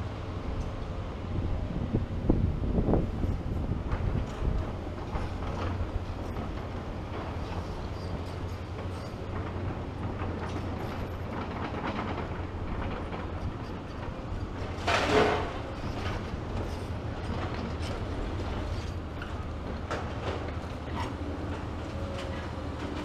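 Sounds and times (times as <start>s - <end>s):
diesel excavators running: 0.0s - 23.0s
machinery clanks and knocks: 2.9s - 23.0s.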